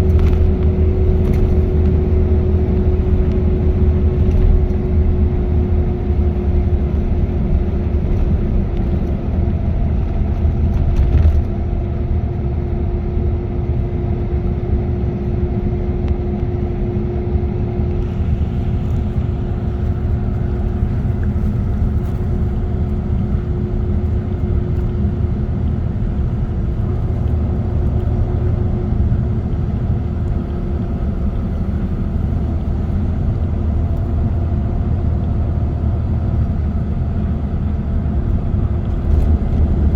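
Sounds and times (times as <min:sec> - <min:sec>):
low engine and road hum: 0:00.0 - 0:39.9.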